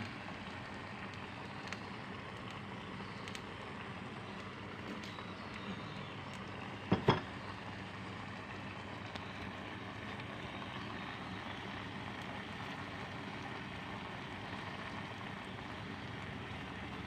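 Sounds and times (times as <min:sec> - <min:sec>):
steady noisy hiss: 0:00.0 - 0:17.0.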